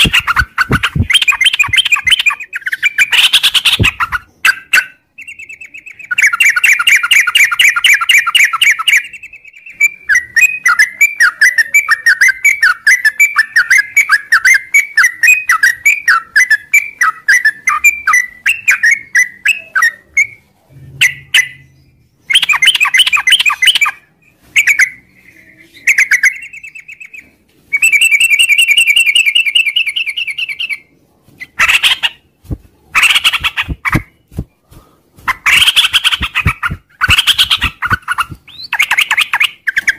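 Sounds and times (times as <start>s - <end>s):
bird chattering song: 0.0s - 32.3s, 33.0s - 34.4s, 35.3s - 39.9s.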